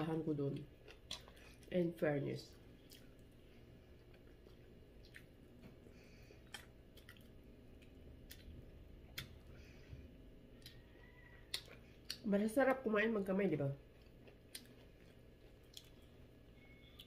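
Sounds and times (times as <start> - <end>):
faint chewing: 0.5 - 1.8, 2.8 - 12.3, 13.8 - 17.0.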